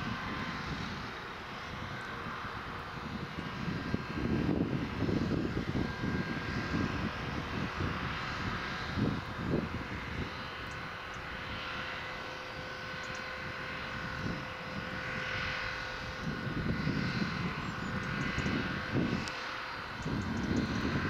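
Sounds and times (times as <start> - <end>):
hedge cutter whine: 0.0 - 21.0
tractor engine drone: 0.0 - 21.0.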